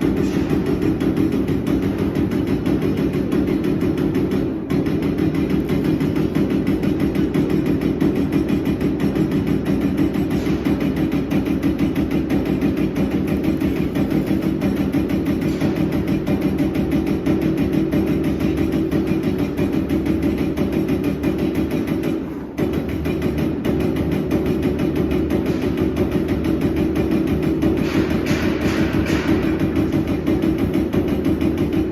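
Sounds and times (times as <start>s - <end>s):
punch press striking sheet metal: 0.0s - 31.9s
steady machine hum: 0.0s - 31.9s.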